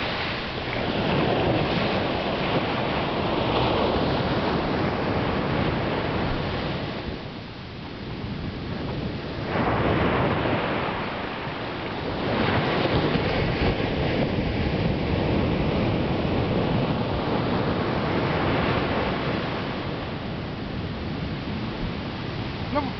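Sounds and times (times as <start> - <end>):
ocean surf breaking on beach: 0.0 - 22.9.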